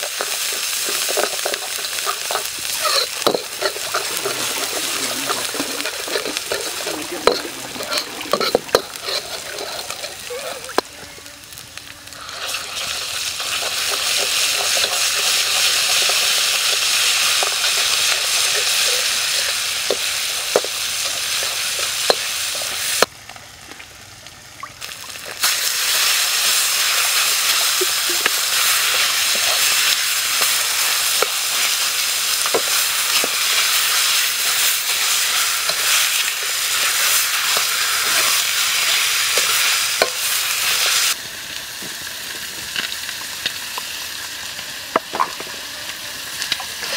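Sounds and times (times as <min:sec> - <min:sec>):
food sizzling in a wok: 0:00.0 - 0:46.9.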